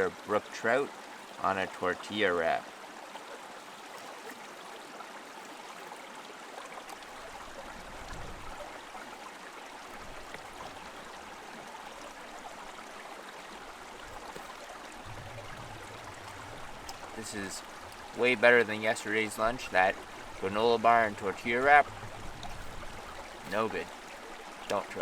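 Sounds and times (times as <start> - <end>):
water running over rocks: 0.0 - 25.0.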